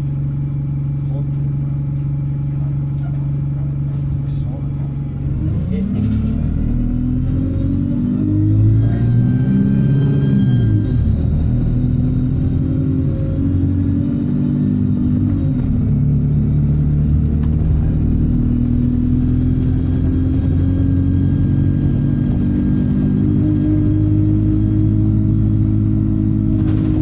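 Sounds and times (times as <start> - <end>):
bus diesel engine running: 0.0 - 27.0
turbocharger whine: 0.0 - 27.0.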